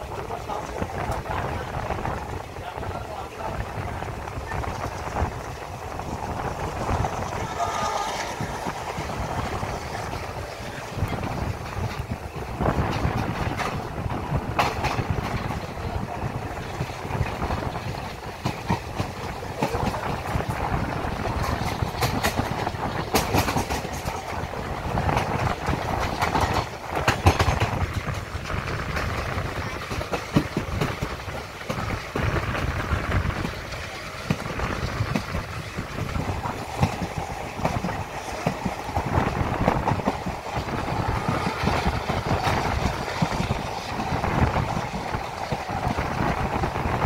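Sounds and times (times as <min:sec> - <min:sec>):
train rumble inside coach: 0:00.0 - 0:47.0
wheels clacking over rail joints: 0:00.0 - 0:47.0.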